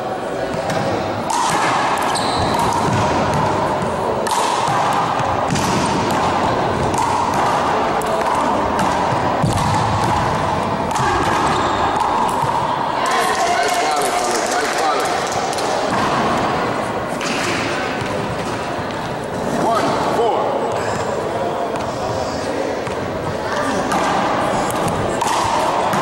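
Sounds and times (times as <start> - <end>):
hall background noise: 0.0 - 26.0
handball hitting wall and floor: 0.4 - 26.0.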